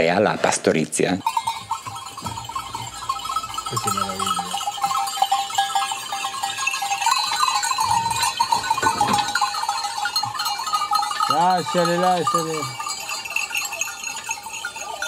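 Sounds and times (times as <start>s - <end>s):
goat bells jangling: 1.1s - 15.0s.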